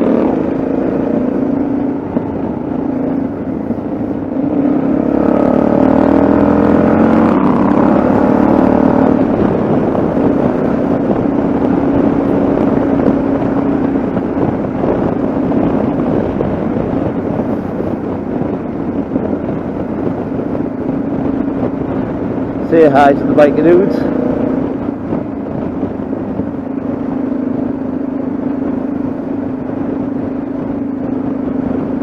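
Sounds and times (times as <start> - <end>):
motorcycle engine accelerating: 0.0 - 32.0
wind and road noise: 0.0 - 32.0.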